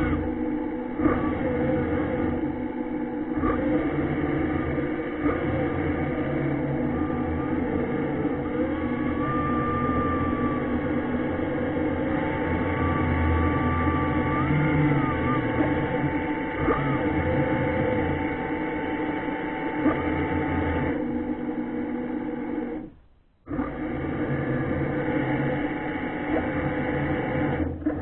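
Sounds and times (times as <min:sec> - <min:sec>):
underwater thruster motors humming: 0:00.0 - 0:28.0.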